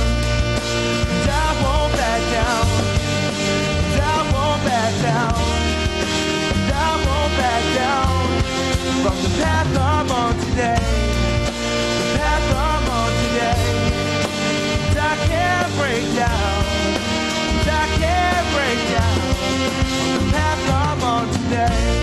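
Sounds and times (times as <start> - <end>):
instrumental song with beat and bass: 0.0 - 22.0.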